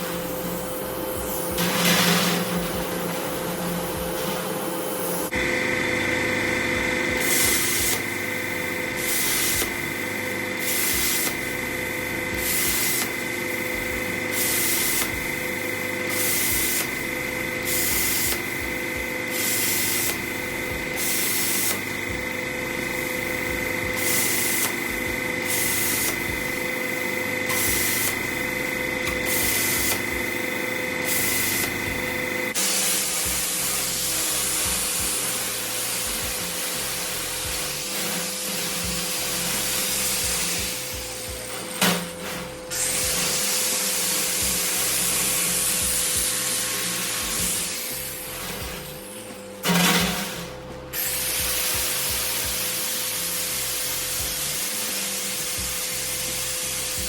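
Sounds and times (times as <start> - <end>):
plasma cutter arc whining and hissing: 0.0 - 57.0.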